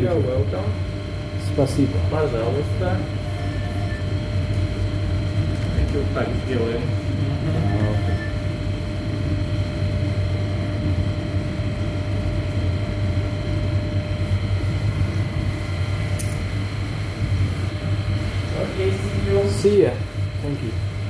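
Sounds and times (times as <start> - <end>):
machine humming with whine: 0.0 - 21.0.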